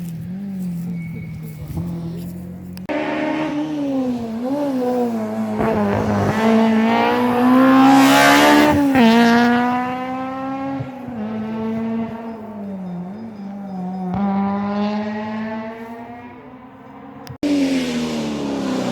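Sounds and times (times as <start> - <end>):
rally car engine revving: 0.0 - 18.9.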